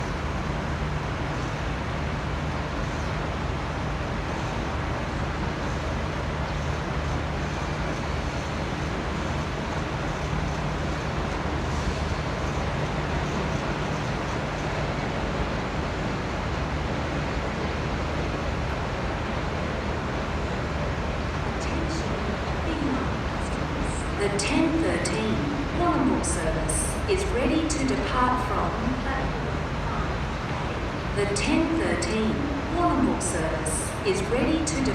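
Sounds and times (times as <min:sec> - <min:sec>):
constant hiss: 0:00.0 - 0:34.9
diesel locomotive engine idling: 0:00.0 - 0:34.9.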